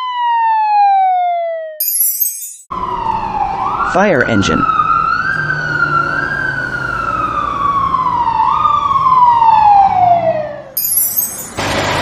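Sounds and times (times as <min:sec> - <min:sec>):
fire engine siren wailing: 0:00.0 - 0:01.8, 0:02.7 - 0:10.8.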